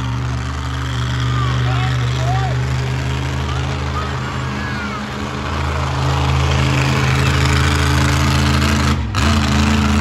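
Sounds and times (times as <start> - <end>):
monster truck engine running: 0.0 - 10.0.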